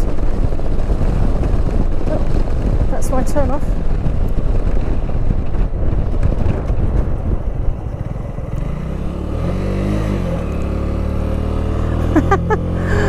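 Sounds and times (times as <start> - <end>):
motorcycle engine: 0.0 - 13.0
wind rushing over microphone: 0.0 - 13.0.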